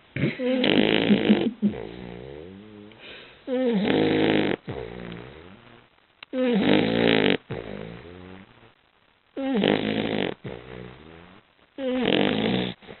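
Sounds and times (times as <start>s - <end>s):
dog snoring loudly: 0.2s - 2.9s, 3.5s - 5.8s, 6.4s - 8.6s, 9.4s - 13.0s.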